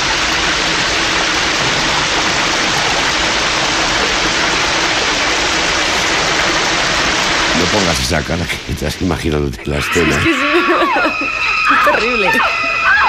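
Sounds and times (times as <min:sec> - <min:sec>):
shower spraying: 0:00.0 - 0:13.0.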